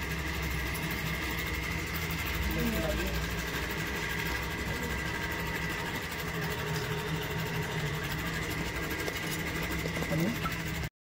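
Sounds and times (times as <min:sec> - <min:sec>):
machine high whine: 0:00.0 - 0:10.9
machine low hum: 0:00.0 - 0:10.9.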